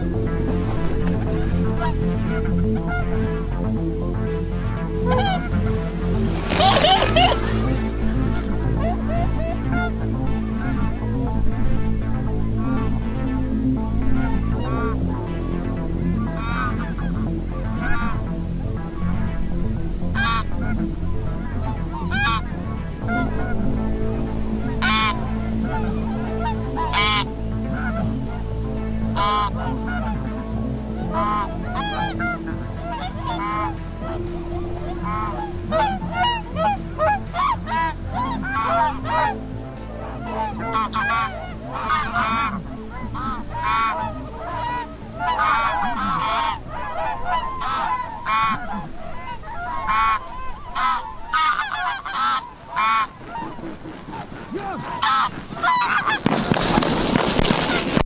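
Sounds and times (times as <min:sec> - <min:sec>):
rushing wing noise overhead: 0:00.0 - 0:03.5, 0:04.9 - 0:58.0
geese honking: 0:00.0 - 0:58.0.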